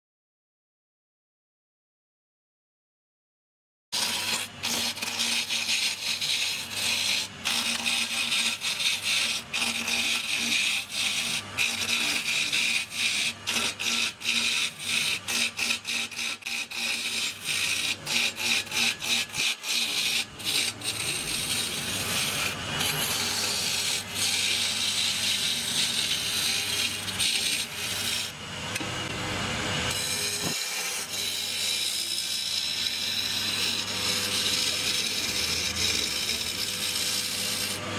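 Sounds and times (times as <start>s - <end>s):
lathe motor hum: 4.0s - 37.9s
lathe tool cutting wood: 4.0s - 37.9s.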